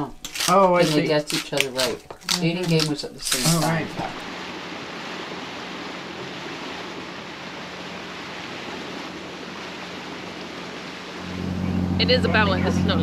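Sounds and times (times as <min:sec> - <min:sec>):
water rushing along boat hull: 0:00.0 - 0:13.0.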